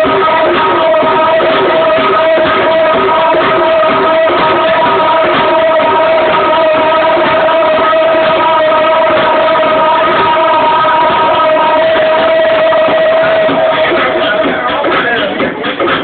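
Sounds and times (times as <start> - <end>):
long held sung notes: 0.0 - 14.4
loud dance music: 0.0 - 16.0.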